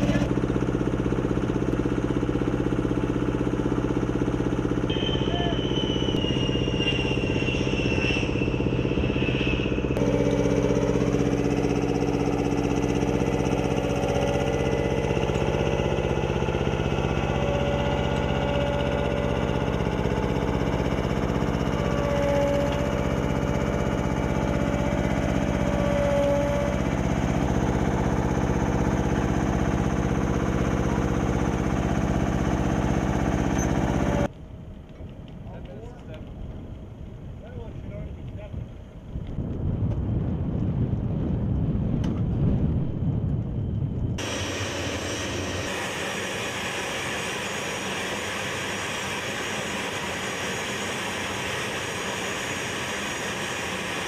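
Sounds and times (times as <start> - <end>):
high engine whine falling in pitch: 0.0 - 34.3, 39.3 - 54.0
aircraft engines droning: 0.0 - 40.0, 40.6 - 54.0.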